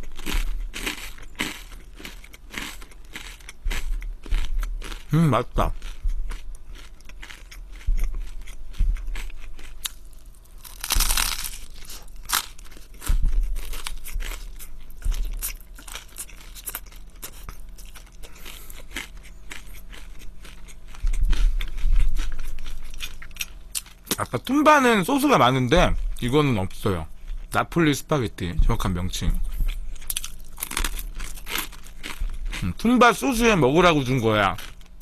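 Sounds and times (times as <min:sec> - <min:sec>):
chewing with crisp crunches: 0:00.0 - 0:27.8, 0:28.4 - 0:35.0.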